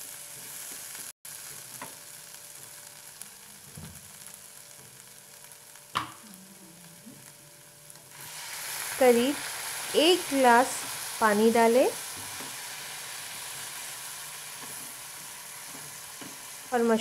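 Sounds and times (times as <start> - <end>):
mushrooms sizzling in a pan: 0.0 - 17.0.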